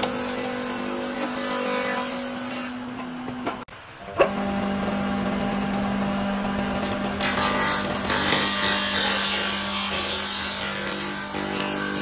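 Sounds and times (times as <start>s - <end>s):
cutter cutting wooden board: 0.0s - 3.1s, 4.1s - 12.0s.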